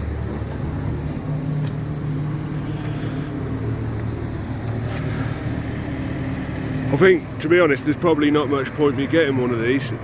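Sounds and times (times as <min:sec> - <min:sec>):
farm machinery engine running: 0:00.0 - 0:10.0.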